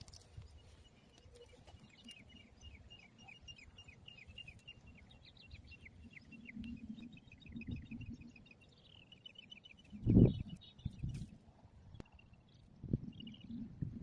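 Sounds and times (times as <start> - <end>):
bird chirping: 0.0 - 11.3, 11.9 - 14.0.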